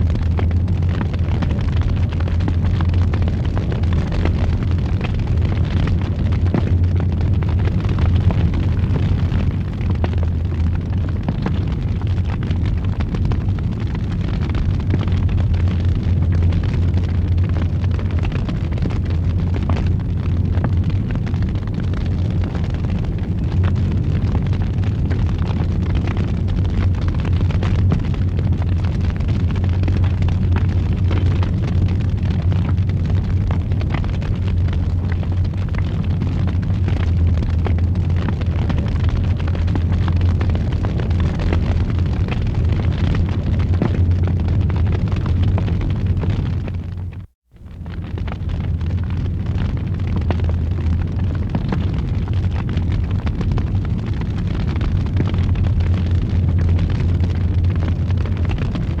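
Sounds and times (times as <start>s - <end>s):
fire crackling and popping: 0.0s - 59.0s
fireplace fire roaring: 0.0s - 59.0s.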